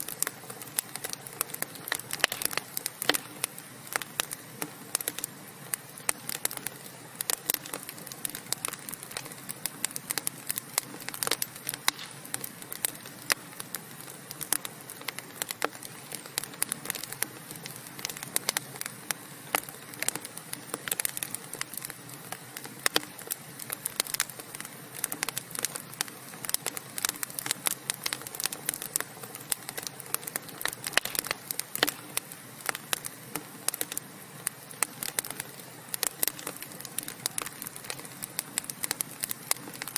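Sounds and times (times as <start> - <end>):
logs crackling in fireplace: 0.0 - 39.9
soft hiss: 0.0 - 39.9.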